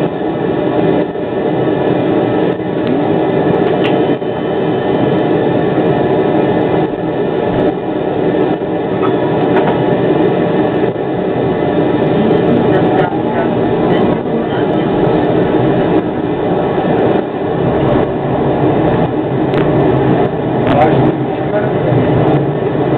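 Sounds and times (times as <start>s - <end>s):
faint whines: 0.0s - 22.9s
tram cab hum and rumble: 0.0s - 22.9s.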